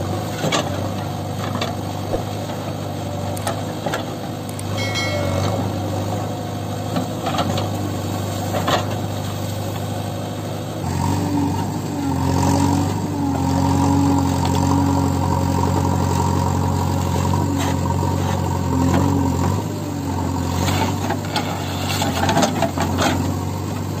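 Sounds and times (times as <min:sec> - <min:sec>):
backhoe diesel engine: 0:00.0 - 0:24.0.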